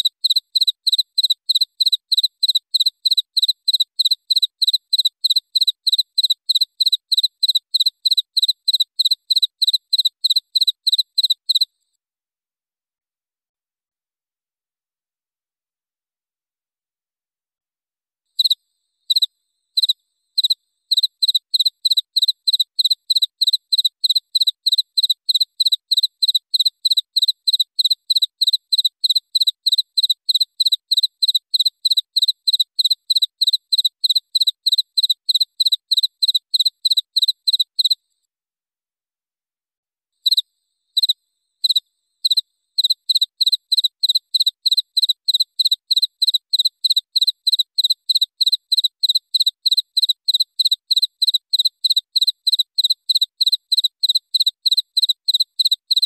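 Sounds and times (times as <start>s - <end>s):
cricket chirping: 0.0s - 11.7s, 18.4s - 38.0s, 40.2s - 56.0s.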